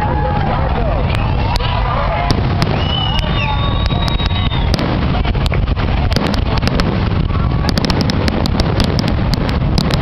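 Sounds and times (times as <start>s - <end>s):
low rumble: 0.0s - 10.0s
fireworks crackling pops and bangs: 1.0s - 10.0s.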